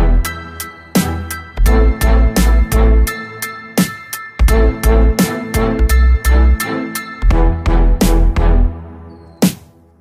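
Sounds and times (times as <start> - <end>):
music with heavy bass beat: 0.0 - 9.8.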